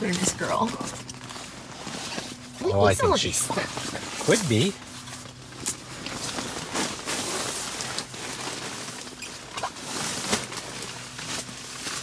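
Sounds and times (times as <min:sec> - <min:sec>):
vinyl mattress crinkling: 0:00.0 - 0:12.0.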